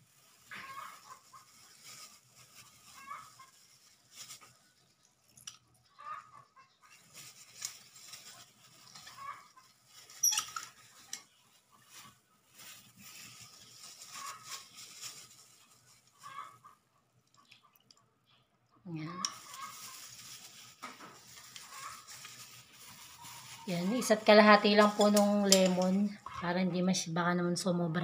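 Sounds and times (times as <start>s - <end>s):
plastic glove crinkling: 0.0s - 17.8s, 19.1s - 26.6s.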